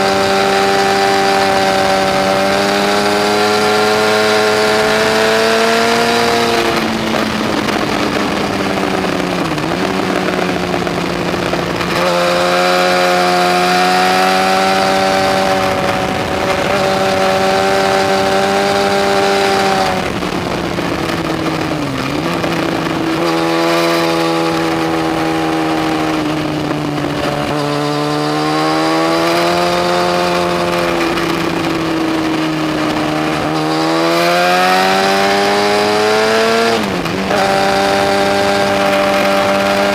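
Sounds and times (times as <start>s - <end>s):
motorcycle engine running hard: 0.0s - 39.9s
steady rush of noise: 0.0s - 39.9s.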